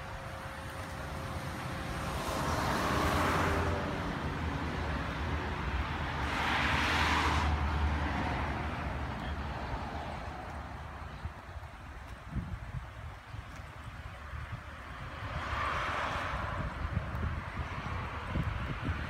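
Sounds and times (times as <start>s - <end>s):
road traffic rumble: 0.0s - 19.0s
vehicles passing by: 0.0s - 19.0s.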